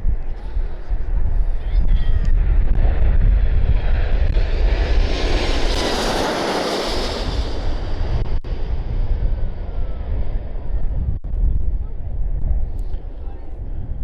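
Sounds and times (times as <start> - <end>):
wind buffeting microphone: 0.0 - 14.0
jet aircraft passing overhead: 0.3 - 14.0.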